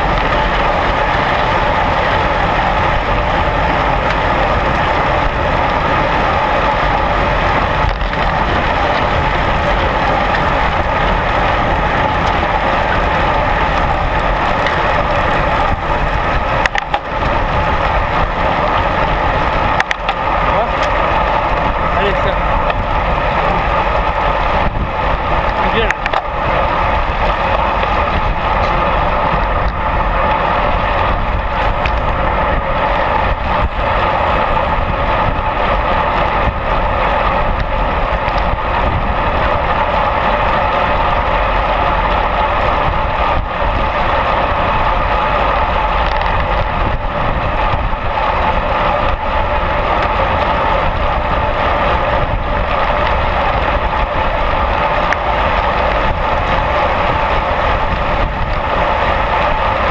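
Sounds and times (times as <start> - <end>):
bicycle tyre noise: 0.0 - 59.9
wind rush: 0.0 - 59.9.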